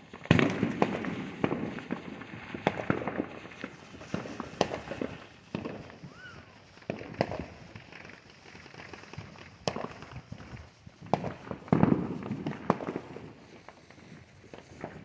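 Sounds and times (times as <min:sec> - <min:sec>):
distant fireworks bangs and pops: 0:00.0 - 0:15.0
fireworks crackling: 0:00.0 - 0:15.0.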